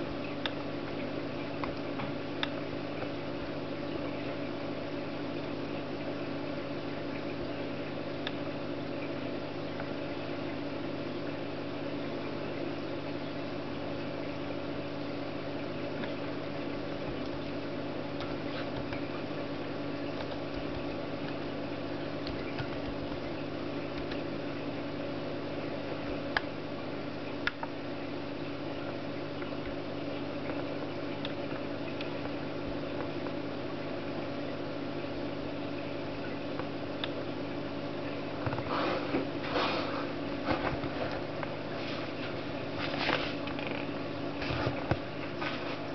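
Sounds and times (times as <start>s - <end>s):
electrical appliance humming: 0.0s - 45.9s.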